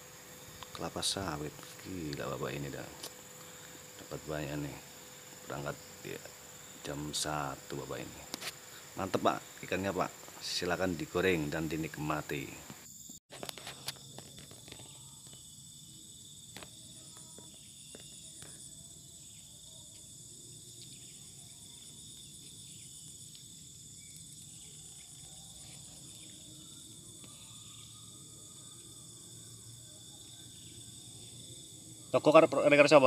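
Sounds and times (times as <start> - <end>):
insects chorus ringing: 0.0 - 33.0.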